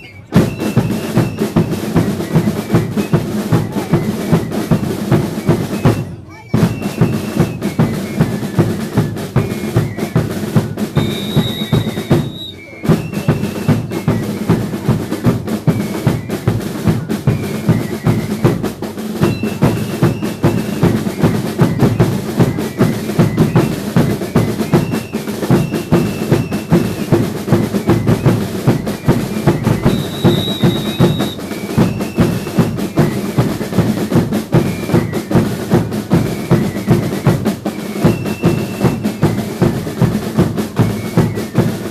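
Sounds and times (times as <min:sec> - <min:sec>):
bass and snare drumming: 0:00.0 - 0:41.9.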